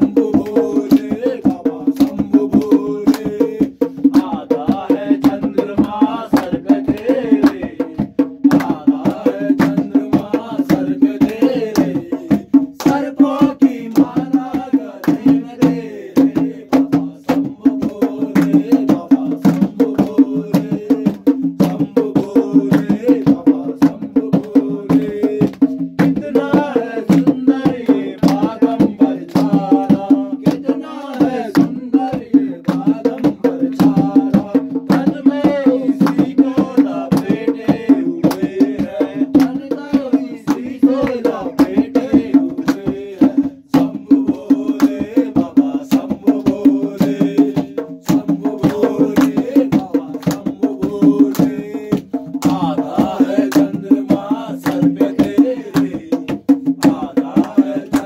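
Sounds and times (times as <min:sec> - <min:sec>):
fast percussion strikes: 0:00.0 - 0:58.0
person singing devotional melody: 0:00.0 - 0:58.0.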